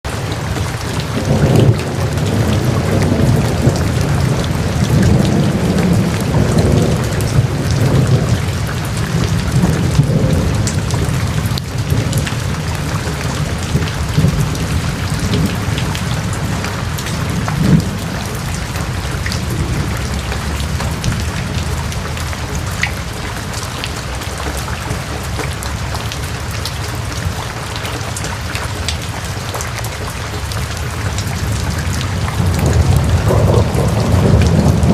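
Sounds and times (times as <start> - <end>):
heavy rain falling: 0.0 - 34.9
rolling thunder rumble: 0.2 - 27.4, 30.8 - 34.9.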